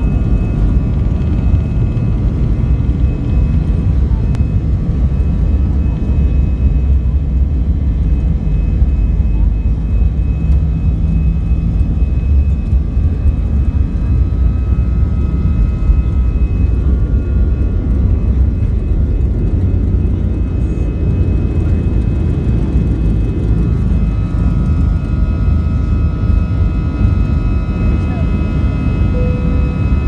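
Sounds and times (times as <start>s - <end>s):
jet engine whine: 0.0s - 30.0s
jet engines rumbling: 0.0s - 30.0s.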